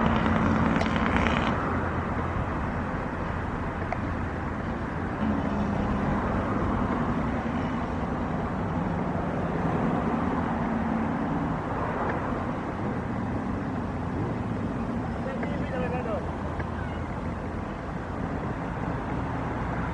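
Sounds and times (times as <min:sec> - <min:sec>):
engine humming: 0:00.0 - 0:19.9
steady background noise: 0:00.0 - 0:19.9.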